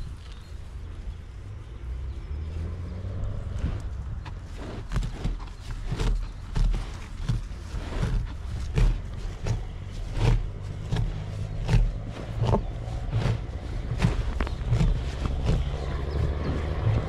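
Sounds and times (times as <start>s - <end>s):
wind rumble on microphone: 0.0s - 17.0s
cow movement thuds: 3.1s - 17.0s.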